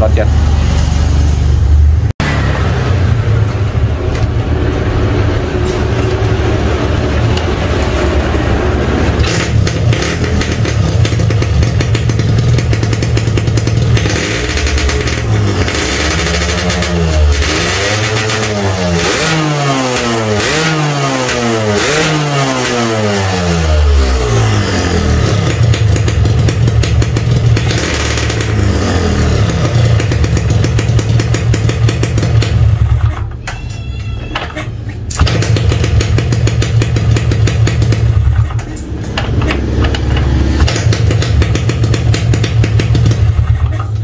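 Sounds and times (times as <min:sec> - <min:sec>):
motorcycle engine idling and revving: 0:00.0 - 0:33.5, 0:35.1 - 0:44.0.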